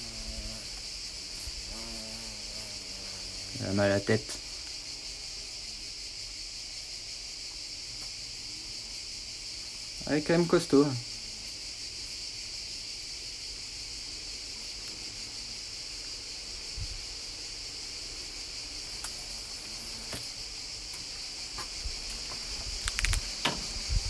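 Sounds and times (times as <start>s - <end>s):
cicadas singing: 0.0s - 24.0s.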